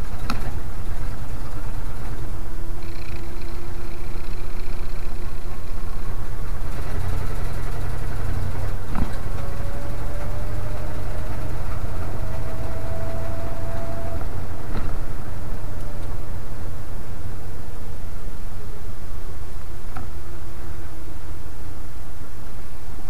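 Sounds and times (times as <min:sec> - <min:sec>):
truck engine rumble with whine: 0:00.0 - 0:23.0.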